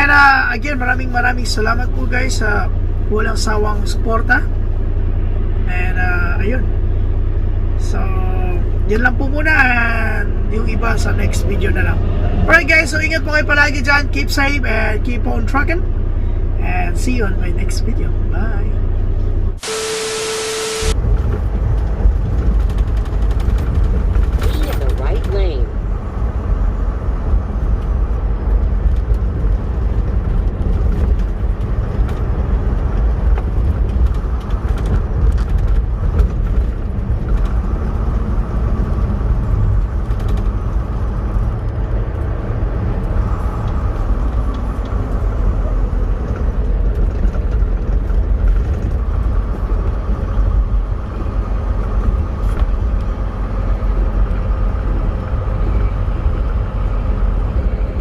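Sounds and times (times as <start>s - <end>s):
truck engine and tyres rumbling: 0.0s - 58.0s.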